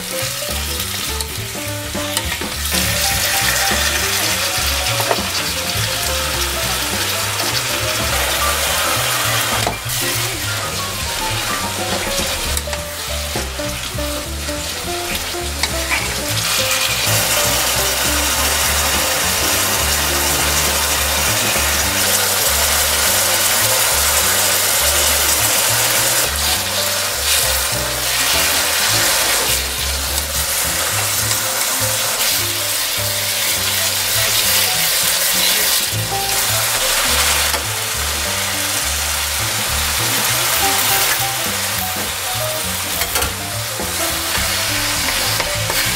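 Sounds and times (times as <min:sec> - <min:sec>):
food sizzling in a pot: 0:00.0 - 0:45.9
wooden spatula scraping: 0:00.5 - 0:45.9.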